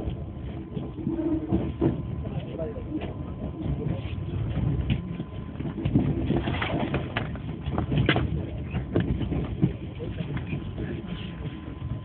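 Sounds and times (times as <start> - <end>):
train rumble from inside coach: 0.0 - 12.0.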